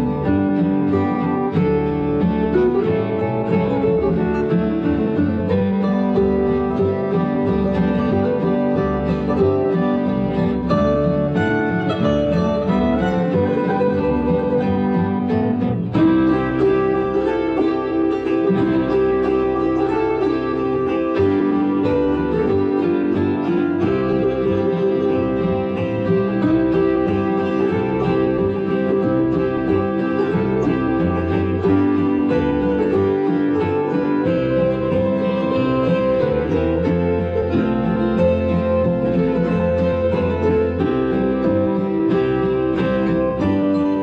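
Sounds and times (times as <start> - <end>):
acoustic guitar instrumental music: 0.0 - 44.0.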